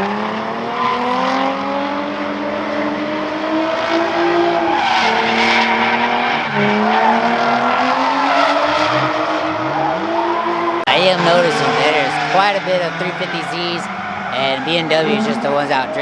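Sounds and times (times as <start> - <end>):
car engine at high revs: 0.0 - 16.0
tyres skidding: 0.5 - 16.0.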